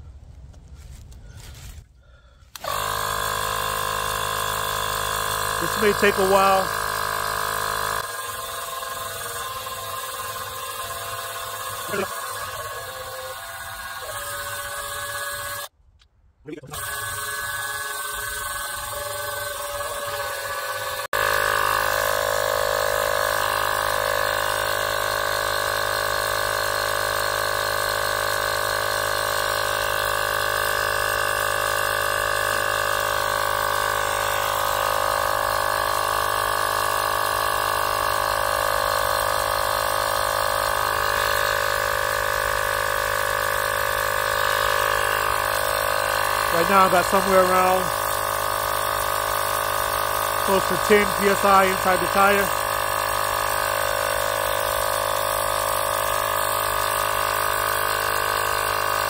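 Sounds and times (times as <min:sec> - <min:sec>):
air compressor running: 0:00.9 - 0:15.7, 0:16.6 - 0:59.0.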